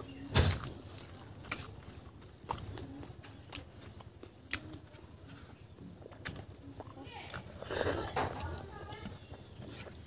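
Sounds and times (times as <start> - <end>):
chewing mouth sounds: 0.0 - 10.0.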